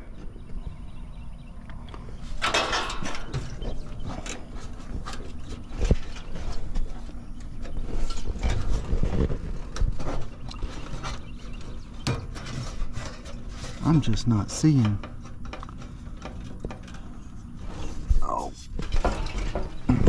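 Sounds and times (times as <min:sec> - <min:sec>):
hands rustling wiring: 0:02.2 - 0:20.0.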